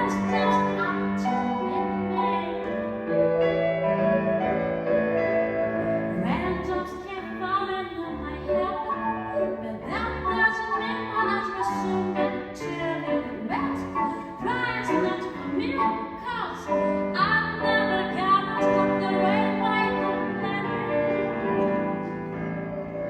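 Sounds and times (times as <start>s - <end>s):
woman singing: 0.0s - 3.0s, 5.8s - 22.0s.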